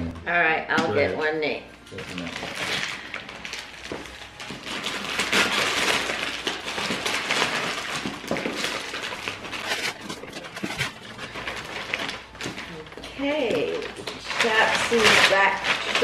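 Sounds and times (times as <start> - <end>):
wrapping paper tearing and crumpling: 1.9 - 16.0.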